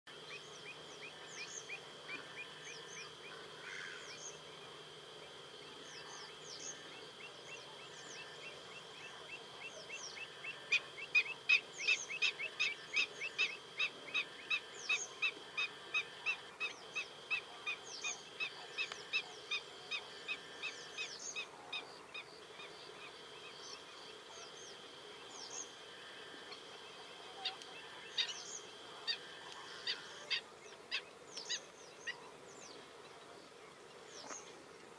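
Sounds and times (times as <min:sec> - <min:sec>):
marsh birds calling: 0:00.1 - 0:34.6.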